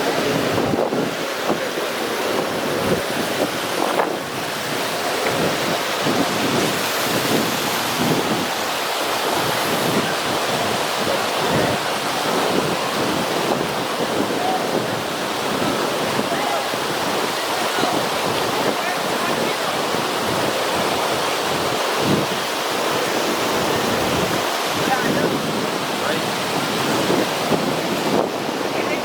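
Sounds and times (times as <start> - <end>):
river rushing: 0.0 - 29.0
wind buffeting microphone: 0.0 - 29.0.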